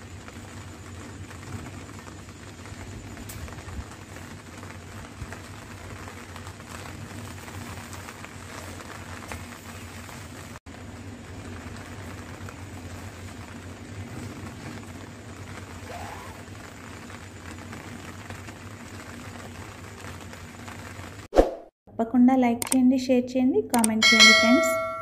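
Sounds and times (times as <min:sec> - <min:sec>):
steady rain falling: 0:00.0 - 0:21.3.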